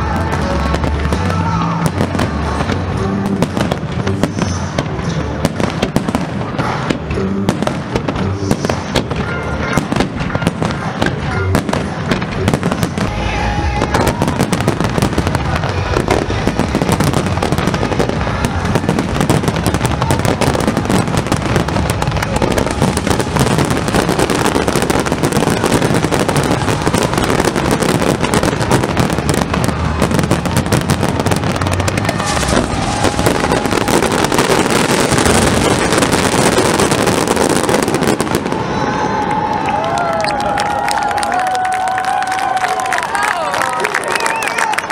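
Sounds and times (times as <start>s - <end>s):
fireworks bangs and crackling: 0.0s - 44.8s
crowd noise: 0.0s - 44.9s.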